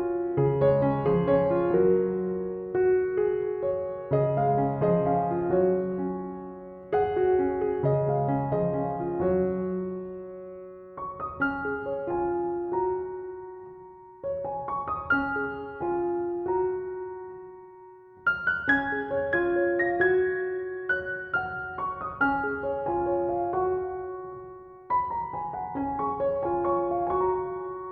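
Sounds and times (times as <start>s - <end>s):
gentle piano music: 0.0s - 27.9s.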